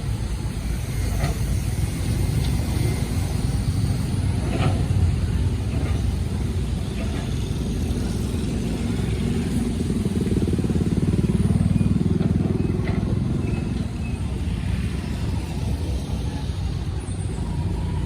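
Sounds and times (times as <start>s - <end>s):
excavator diesel engine chugging: 0.0s - 18.0s.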